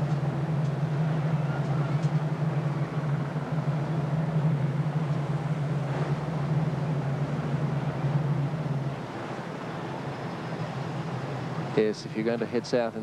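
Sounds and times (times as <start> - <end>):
motorboat engine droning: 0.0 - 13.0
water rushing: 0.0 - 13.0.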